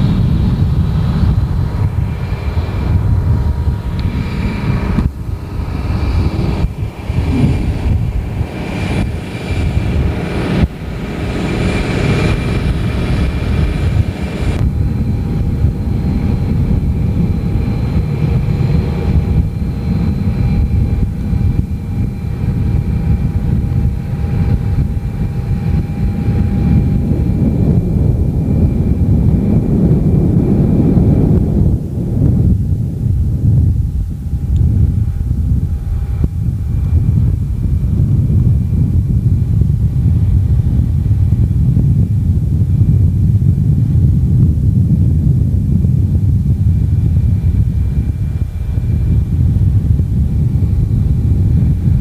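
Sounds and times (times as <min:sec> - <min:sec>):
low aircraft rumble: 0:00.0 - 0:52.0
thin engine whine: 0:00.0 - 0:52.0.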